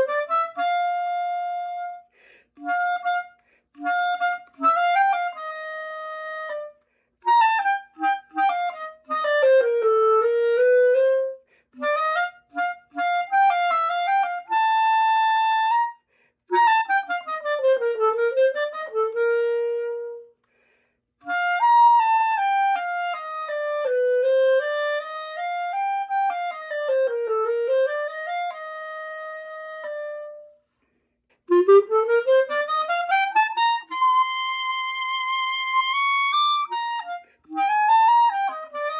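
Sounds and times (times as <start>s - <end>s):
solo wind instrument melody: 0.0s - 20.4s, 21.2s - 30.7s, 31.3s - 38.9s.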